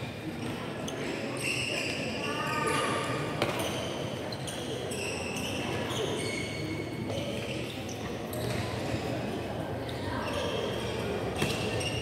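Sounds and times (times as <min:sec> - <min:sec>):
shoes squeaking on court floor: 0:00.0 - 0:09.1, 0:09.9 - 0:12.0.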